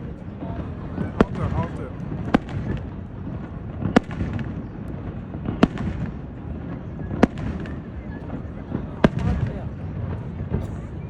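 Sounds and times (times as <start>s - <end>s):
rumble of fireworks display: 0.0s - 11.0s.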